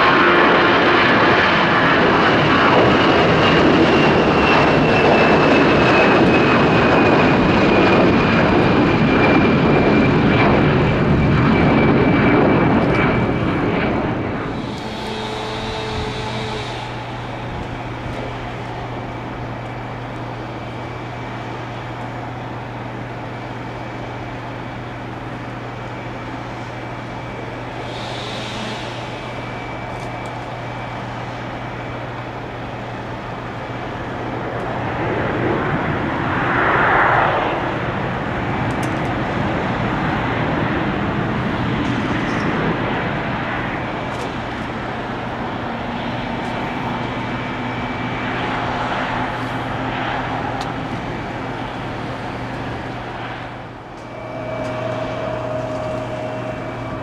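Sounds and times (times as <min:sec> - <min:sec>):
jet engines on landing: 0:00.0 - 0:57.0
steady low hum: 0:00.0 - 0:57.0.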